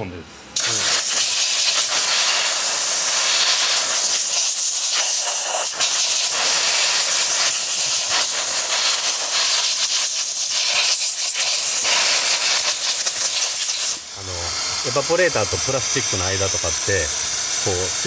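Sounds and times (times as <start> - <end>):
compressed air gun hissing: 0.6 - 18.0.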